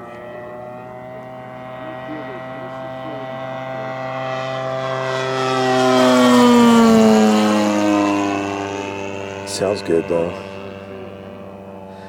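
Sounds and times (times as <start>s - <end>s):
model plane engine flyby: 0.0s - 12.0s.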